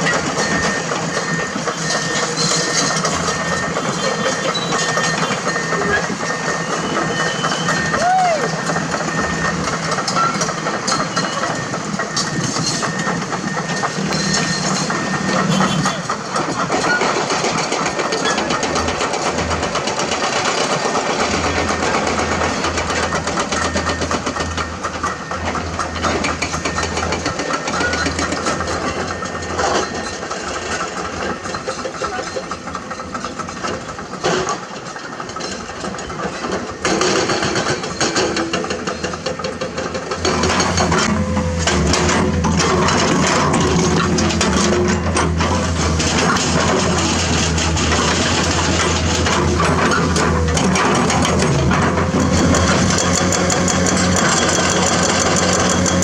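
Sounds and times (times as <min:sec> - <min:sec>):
excavator diesel engine running: 0:00.0 - 0:56.0
dense clatter: 0:08.6 - 0:56.0.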